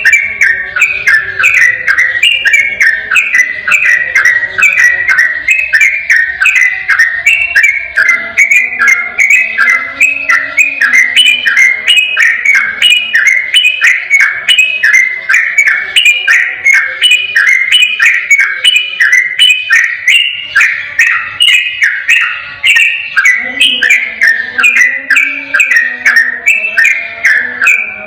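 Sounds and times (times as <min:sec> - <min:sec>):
bird singing whistled notes: 0:00.0 - 0:28.0.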